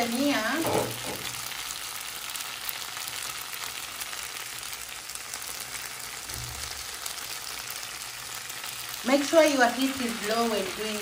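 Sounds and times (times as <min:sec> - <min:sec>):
pasta sizzling in a frying pan: 0:00.0 - 0:11.0.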